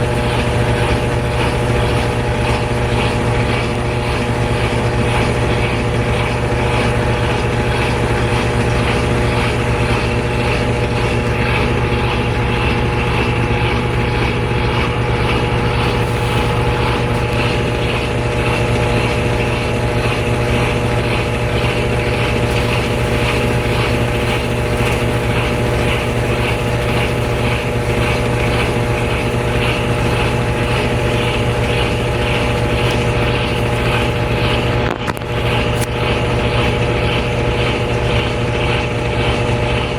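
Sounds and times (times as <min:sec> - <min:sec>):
washer drum spinning: 0:00.0 - 0:39.9.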